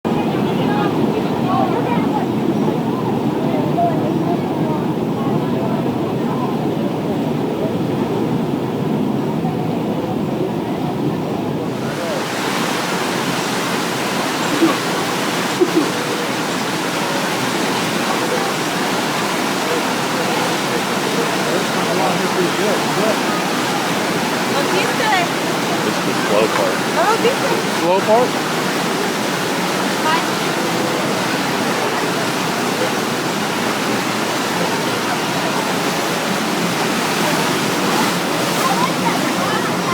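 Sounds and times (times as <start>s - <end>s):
water rushing through channel: 0.1s - 39.9s.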